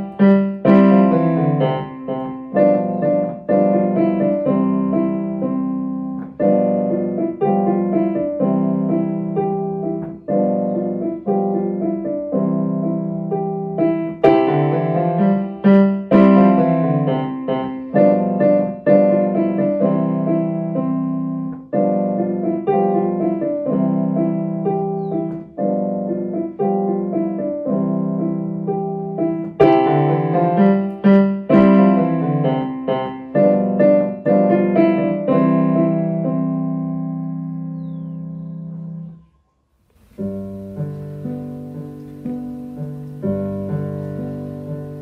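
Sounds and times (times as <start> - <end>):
digital piano playing: 0.0 - 39.3, 40.0 - 45.0.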